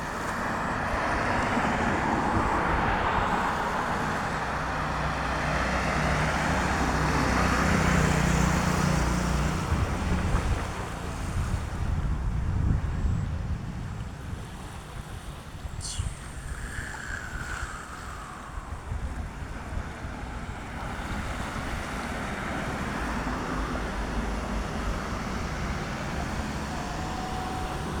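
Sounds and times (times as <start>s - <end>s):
rushing outdoor noise: 0.0s - 28.0s
wind buffeting microphone: 0.0s - 28.0s.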